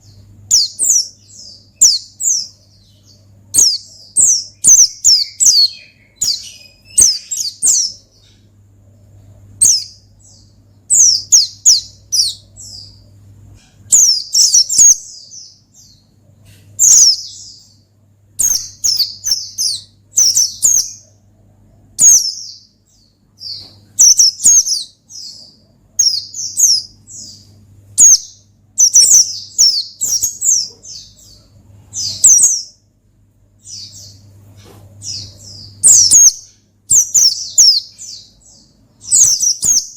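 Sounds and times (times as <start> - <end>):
bird chirping: 0.0 - 39.9
faint low hum: 0.0 - 39.9.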